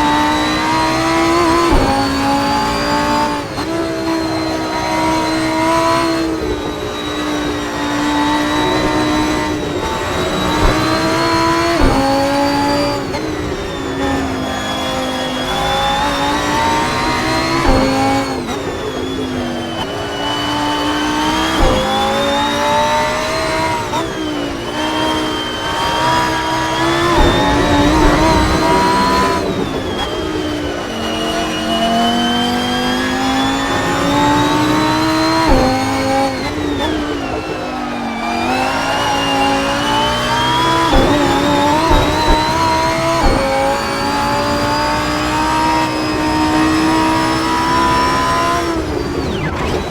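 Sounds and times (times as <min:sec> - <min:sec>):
gear shift crack: 0:00.0 - 0:49.9
sports car engine accelerating: 0:00.0 - 0:49.9.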